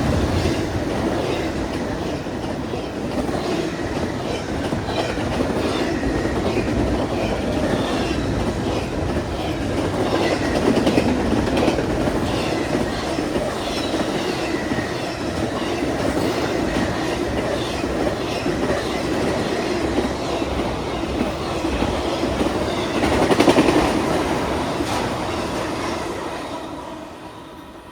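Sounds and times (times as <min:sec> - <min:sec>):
steel wheels rumbling on rail: 0:00.0 - 0:27.9.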